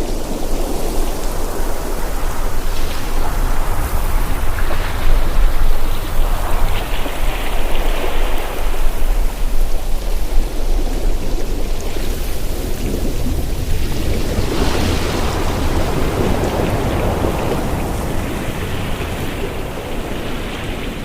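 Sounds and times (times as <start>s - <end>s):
ocean surf: 0.0s - 21.0s
wind: 0.0s - 21.0s.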